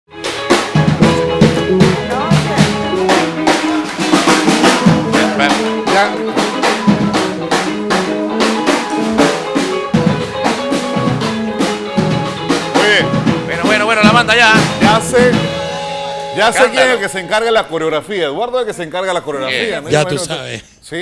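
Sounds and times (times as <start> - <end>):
drum kit beat: 0.1 - 18.3
upbeat band music: 0.1 - 20.5.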